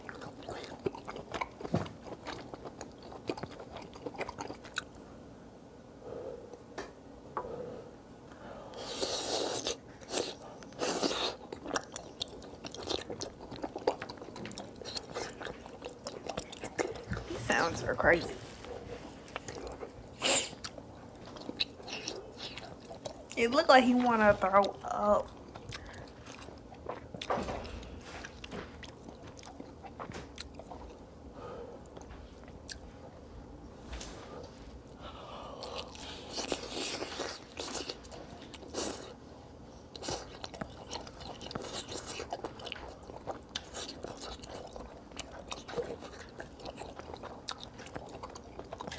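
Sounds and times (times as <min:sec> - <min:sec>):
person chewing food: 0:00.0 - 0:05.1, 0:08.6 - 0:23.4, 0:24.6 - 0:33.3, 0:34.4 - 0:48.9.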